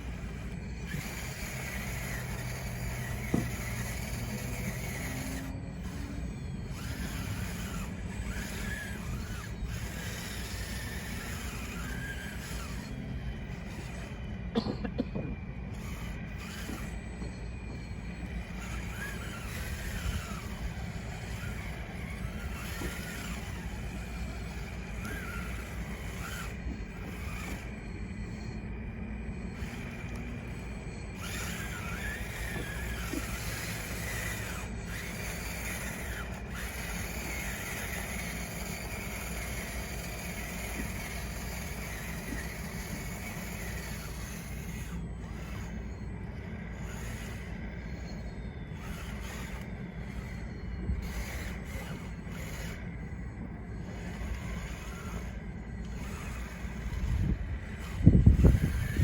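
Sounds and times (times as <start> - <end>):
toy bulldozer motors whining: 0.0 - 59.0.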